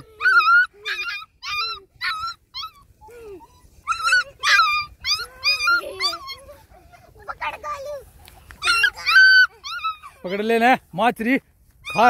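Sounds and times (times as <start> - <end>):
puppy whimpering and yelping: 0.0 - 10.6, 11.8 - 12.0.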